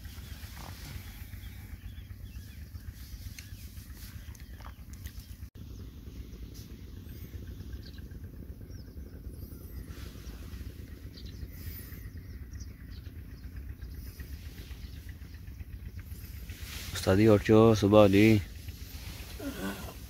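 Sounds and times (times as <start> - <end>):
faint high bird chirps: 0.0 - 17.0
steady low rumble: 0.0 - 20.0.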